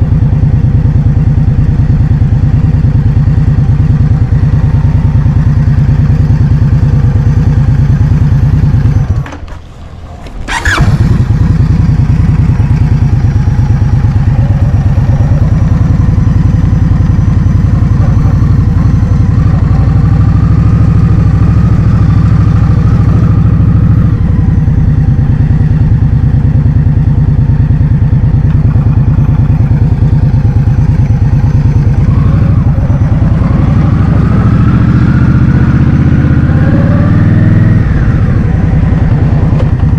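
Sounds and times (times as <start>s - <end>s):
scooter engine: 0.0s - 39.9s.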